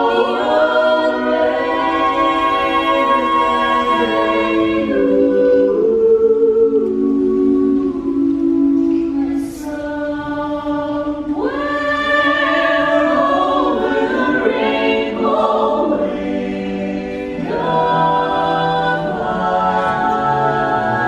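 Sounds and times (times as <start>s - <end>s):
choir singing held chords: 0.0s - 21.0s.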